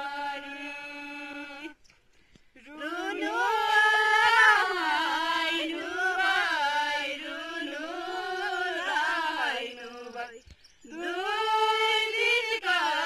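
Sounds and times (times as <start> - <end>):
women singing in unison: 0.0 - 1.8, 2.6 - 13.0.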